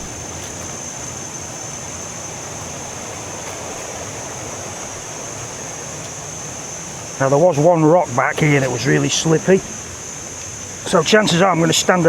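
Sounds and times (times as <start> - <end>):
rushing waterfall stream: 0.0 - 12.0.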